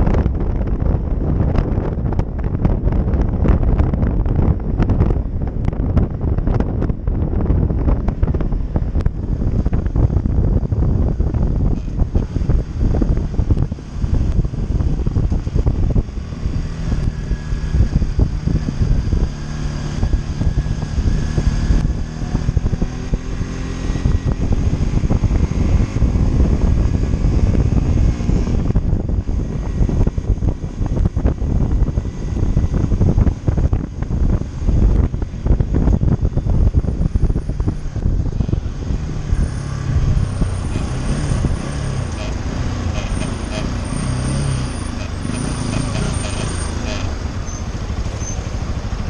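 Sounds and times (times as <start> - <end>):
motorcycle engine accelerating: 0.0 - 49.0
wind buffeting microphone: 0.0 - 49.0.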